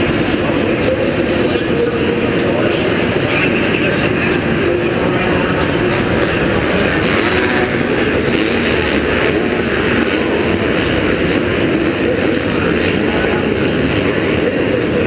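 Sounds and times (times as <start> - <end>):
dirt bike engines running: 0.0 - 15.0.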